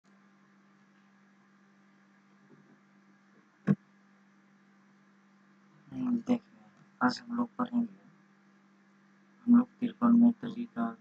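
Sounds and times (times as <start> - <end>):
electrical hum: 0.1 - 11.0
faint hiss: 0.1 - 11.0.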